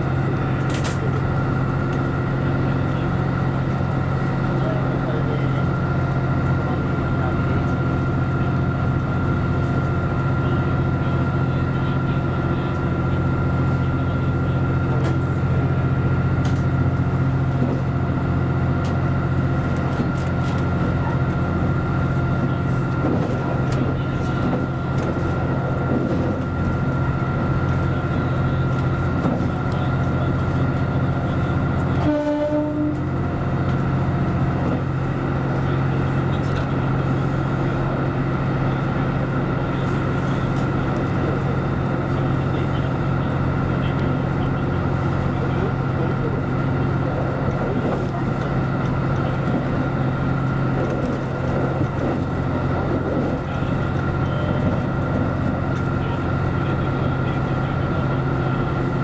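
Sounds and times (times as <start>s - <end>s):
train engine hum: 0.0s - 59.0s.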